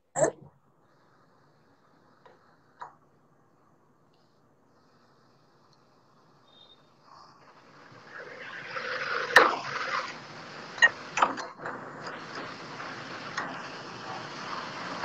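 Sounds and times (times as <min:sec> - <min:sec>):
faint steady hiss: 0:00.5 - 0:15.0.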